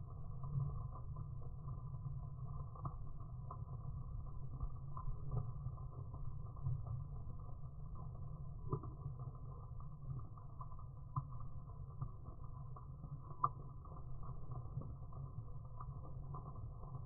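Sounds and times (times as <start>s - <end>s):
low rumble: 0.0s - 17.0s
rain pattering on wet road: 0.0s - 17.0s.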